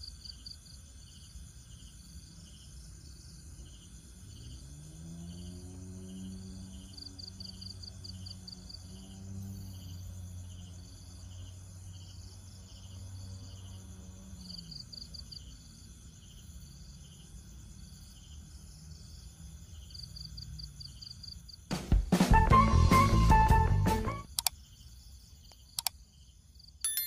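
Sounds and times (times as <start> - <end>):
insects chirping: 0.0 - 21.7, 24.3 - 27.0.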